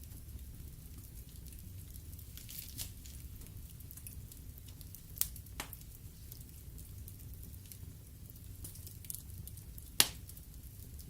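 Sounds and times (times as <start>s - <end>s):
logs crackling and popping: 0.0s - 11.0s
wood fire rumbling: 0.0s - 11.0s.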